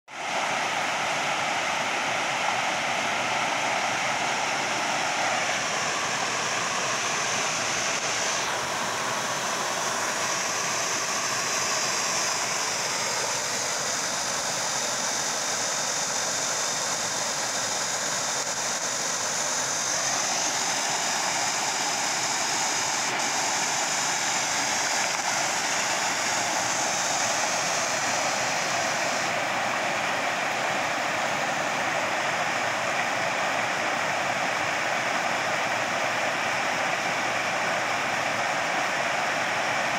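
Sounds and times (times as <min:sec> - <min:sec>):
stream rushing over rocks: 0:00.1 - 0:39.9.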